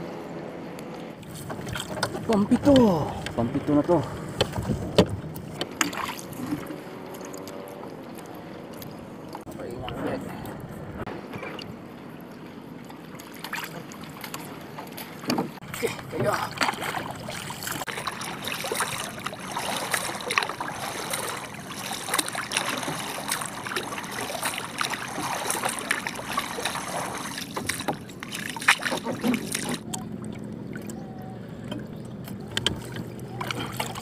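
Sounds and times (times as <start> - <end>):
low hum: 0.0 - 34.0
paddle splashing in water: 1.1 - 10.6, 11.2 - 34.0.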